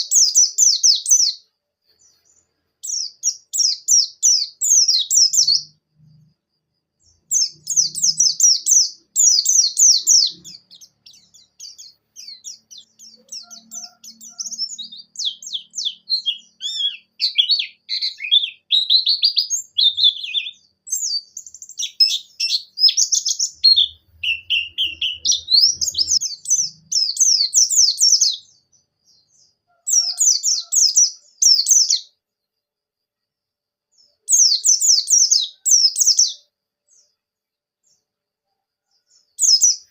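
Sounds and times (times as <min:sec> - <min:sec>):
bird chirping and warbling: 0:00.0 - 0:06.3, 0:07.0 - 0:32.1, 0:34.3 - 0:37.1.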